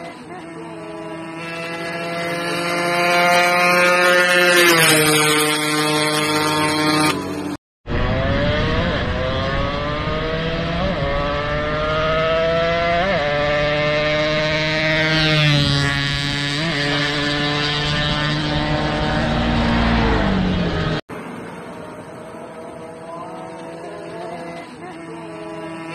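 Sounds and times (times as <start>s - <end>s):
motorcycle engine running hard: 0.0s - 25.9s.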